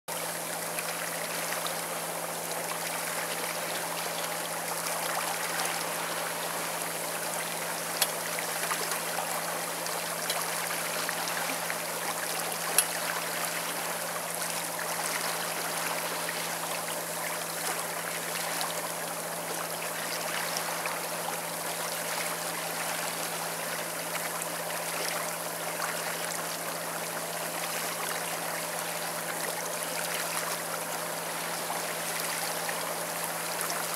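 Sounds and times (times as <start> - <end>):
water rushing along boat hull: 0.1 - 33.9.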